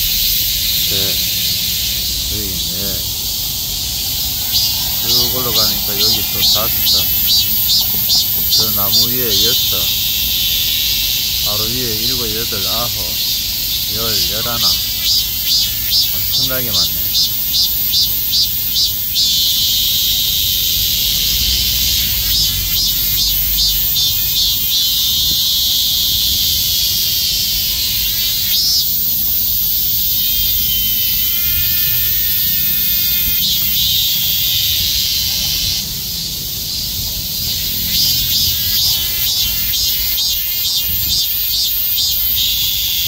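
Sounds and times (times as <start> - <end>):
cicadas buzzing: 0.0 - 43.0.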